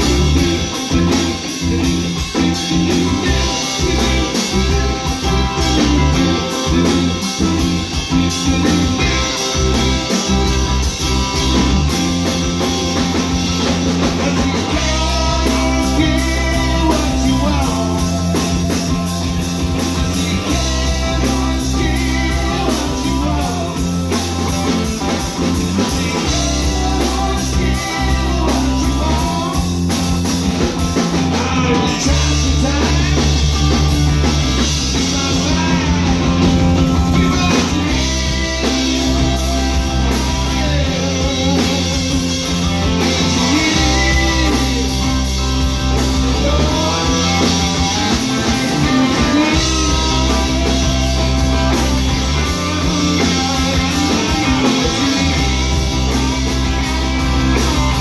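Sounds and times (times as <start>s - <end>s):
person singing: 0.0s - 58.0s
rock band playing: 0.0s - 58.0s.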